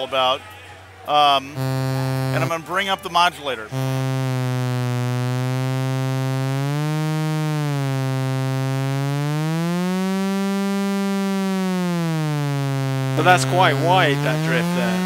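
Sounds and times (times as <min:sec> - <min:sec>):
low buzzy oscillator tone: 0:01.5 - 0:02.9, 0:03.6 - 0:15.0.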